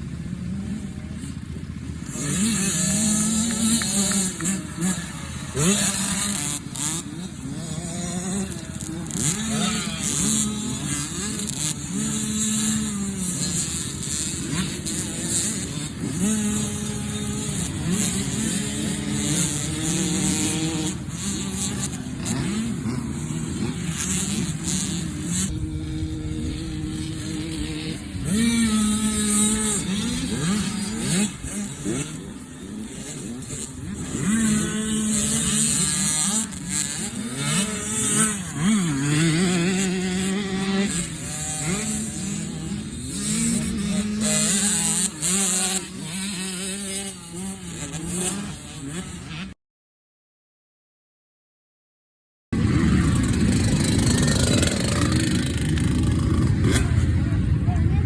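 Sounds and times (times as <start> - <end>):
dirt bike engines revving: 0.0 - 49.6, 52.6 - 58.0.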